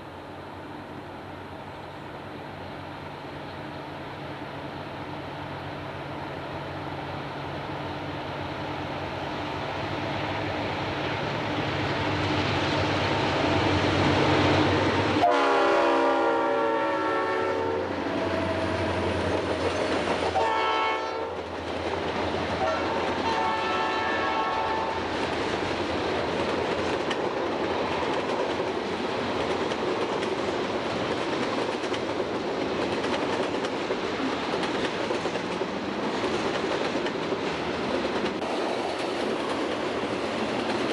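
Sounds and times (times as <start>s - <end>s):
diesel locomotive engine drone: 0.0s - 40.9s
train wheels clickety-clack on rails: 0.0s - 40.9s.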